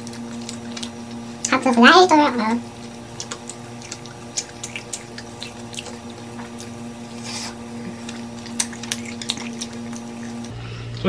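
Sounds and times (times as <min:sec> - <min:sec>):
steady low hum: 0:00.0 - 0:11.0
wet chewing and lip-smacking: 0:00.0 - 0:11.0.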